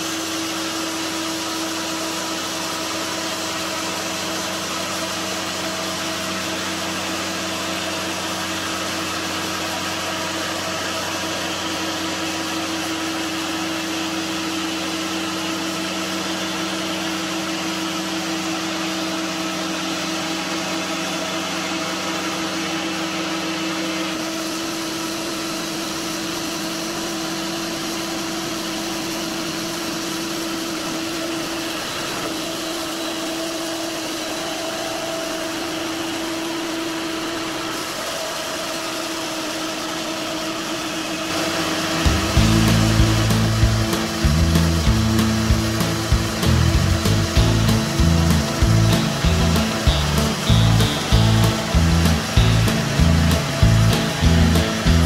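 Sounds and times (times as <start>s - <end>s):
band sawmill cutting log: 0.0s - 55.0s.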